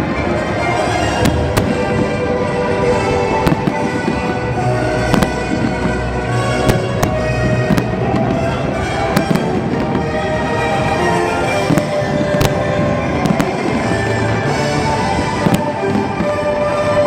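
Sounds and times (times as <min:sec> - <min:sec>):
fireworks bangs: 0:00.0 - 0:17.0
loud music: 0:00.0 - 0:17.0.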